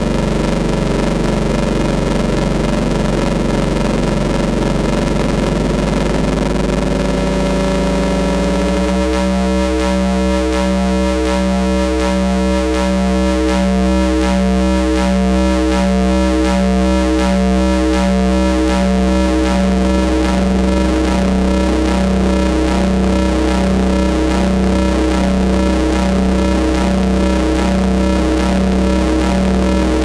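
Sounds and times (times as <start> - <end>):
synthesizer low drone: 0.0 - 30.0
rhythmic synth pulsing: 2.2 - 30.0.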